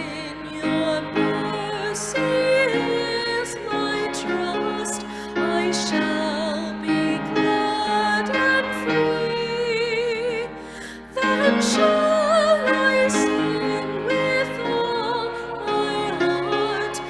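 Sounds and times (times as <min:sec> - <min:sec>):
piano accompaniment: 0:00.0 - 0:17.0.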